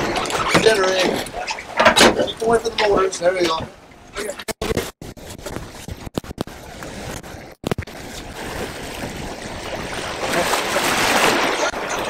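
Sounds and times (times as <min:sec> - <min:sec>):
water splashing against boat hull: 0:00.0 - 0:12.0.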